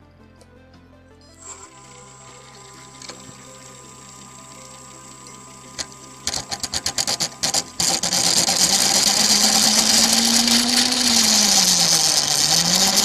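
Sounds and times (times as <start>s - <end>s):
hissy buzz of tool cutting wood: 1.4s - 13.0s.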